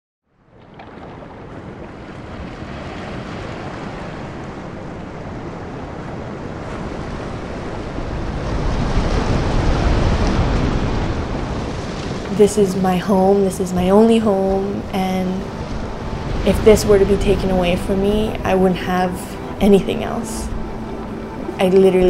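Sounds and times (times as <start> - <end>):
ocean waves rushing: 0.5 - 22.0.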